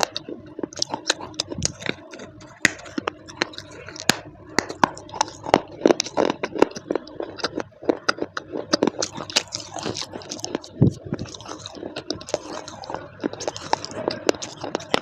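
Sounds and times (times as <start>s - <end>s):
crunching baked clay: 0.0s - 15.0s.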